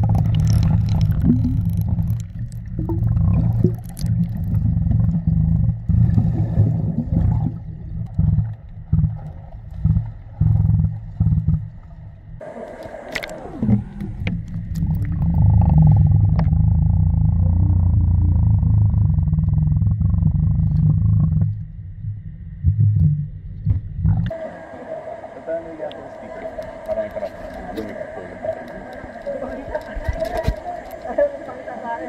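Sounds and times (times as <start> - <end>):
underwater rumble of moving water: 0.0 - 32.0.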